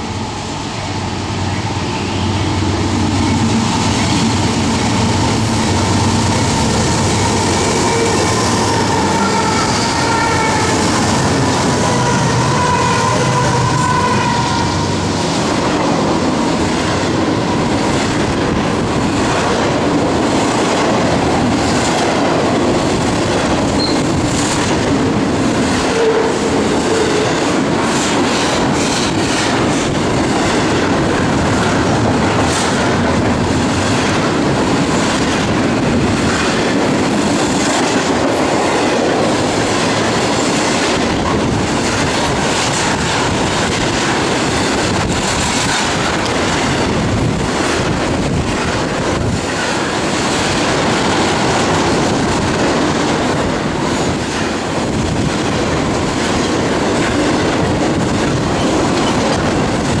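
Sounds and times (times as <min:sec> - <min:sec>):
steel wheels rolling on rail: 0:00.0 - 1:00.0.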